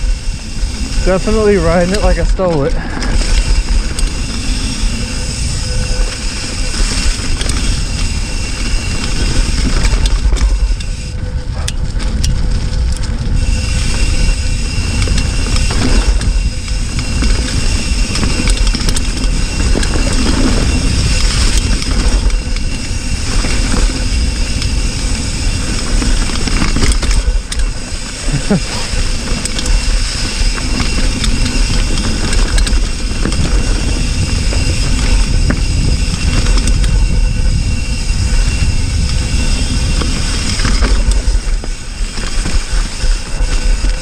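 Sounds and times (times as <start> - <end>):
bike tyres rattling over dirt: 0.0 - 44.0
wind rumble on microphone: 0.0 - 44.0.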